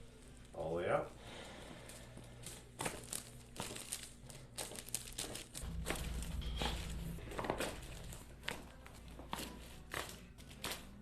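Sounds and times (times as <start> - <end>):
low steady hum: 0.0 - 11.0
rustling and crinkling: 1.4 - 11.0.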